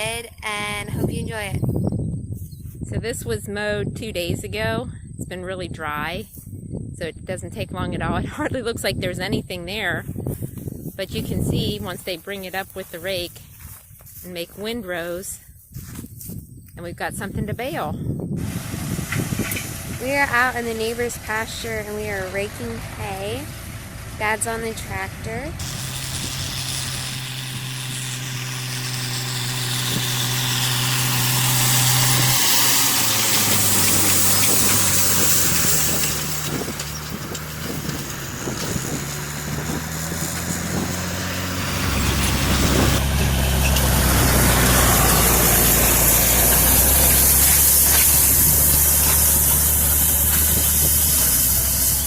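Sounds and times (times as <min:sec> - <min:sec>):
tractor engine running: 0:07.2 - 0:15.3, 0:16.8 - 0:52.0.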